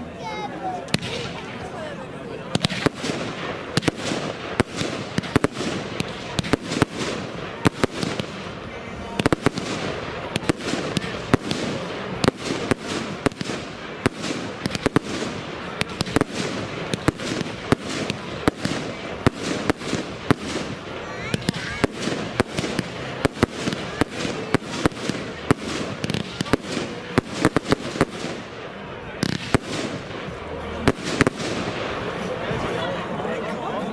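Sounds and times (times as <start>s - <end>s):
rush of burning fireworks: 0.0s - 33.9s
firework bangs: 0.7s - 1.8s, 2.4s - 32.8s.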